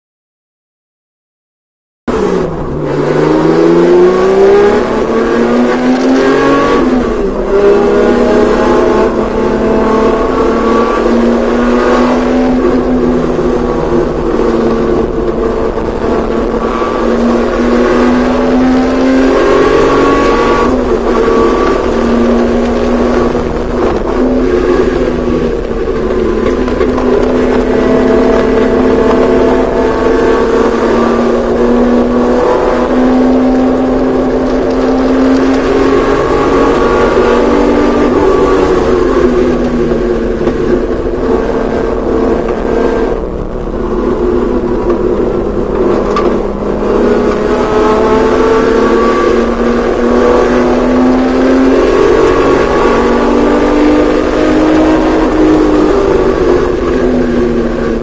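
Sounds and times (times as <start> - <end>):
car engine revving on track: 2.1 - 58.0.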